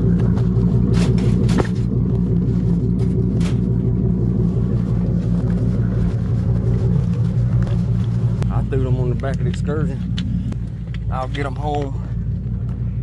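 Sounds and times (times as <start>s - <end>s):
engine running with low rumble: 0.0s - 13.0s.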